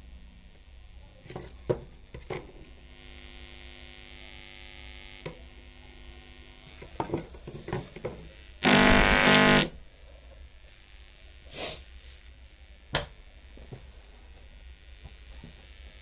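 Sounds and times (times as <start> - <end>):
speaker mains hum and buzz: 0.0 - 16.0.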